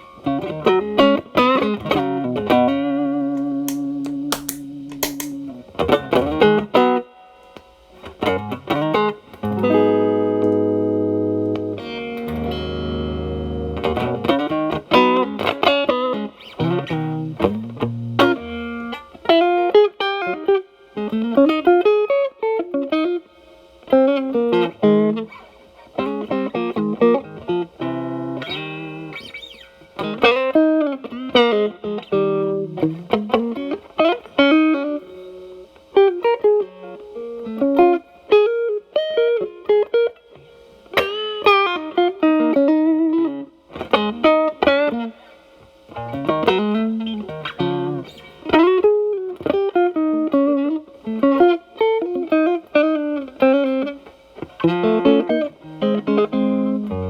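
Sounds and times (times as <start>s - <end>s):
overdriven electric guitar: 0.0s - 57.0s.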